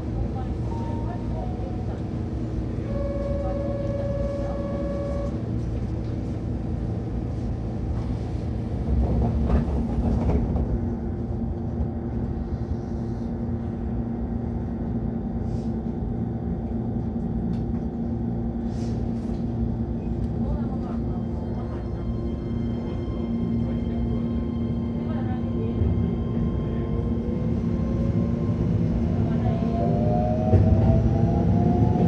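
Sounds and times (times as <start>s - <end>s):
electric train rumble: 0.0s - 32.0s.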